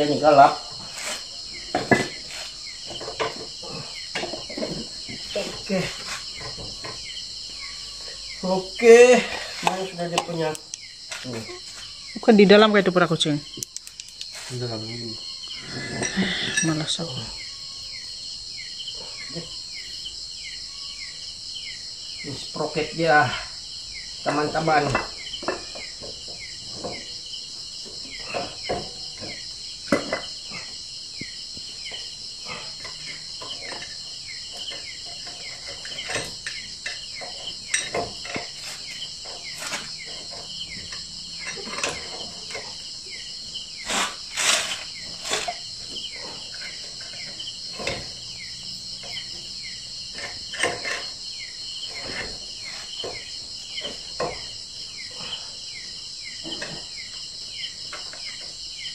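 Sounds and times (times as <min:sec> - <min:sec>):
night insects chirping: 0:00.0 - 0:58.9.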